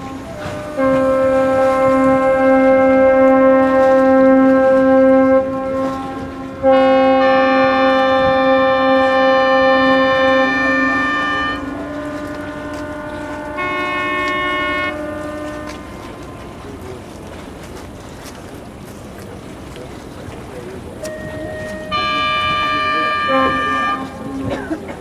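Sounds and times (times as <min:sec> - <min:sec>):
higher-pitched ship horn: 0:00.0 - 0:18.6, 0:21.0 - 0:25.0
ship horn blasts: 0:00.0 - 0:25.0.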